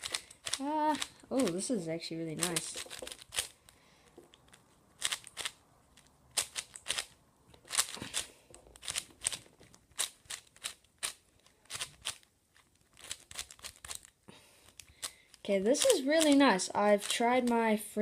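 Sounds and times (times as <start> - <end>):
plastic puzzle cube clicking: 0.0 - 1.7, 2.4 - 16.4.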